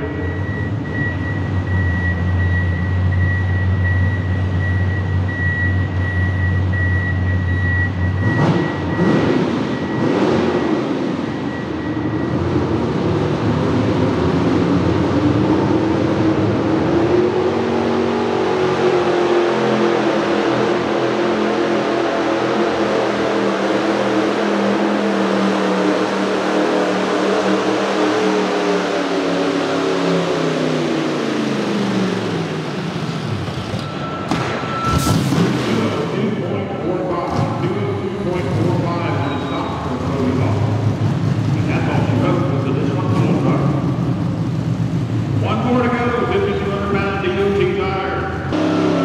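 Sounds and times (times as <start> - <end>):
pulling truck engine at full throttle: 0.0 - 49.0.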